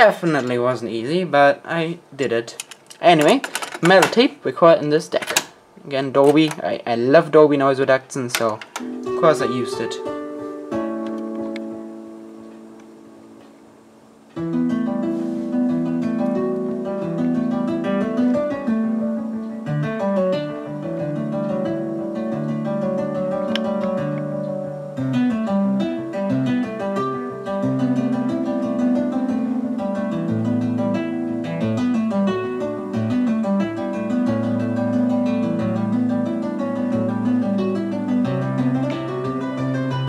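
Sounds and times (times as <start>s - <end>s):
instrumental music: 5.1s - 40.0s.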